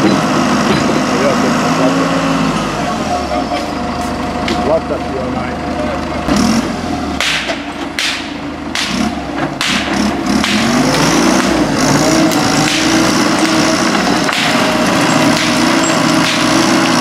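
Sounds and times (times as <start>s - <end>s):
engine running and revving: 0.0s - 17.0s.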